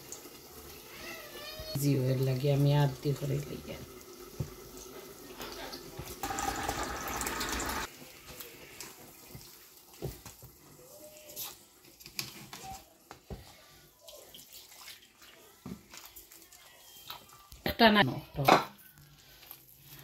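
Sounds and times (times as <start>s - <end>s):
hand mixing wet dough: 1.6s - 20.0s.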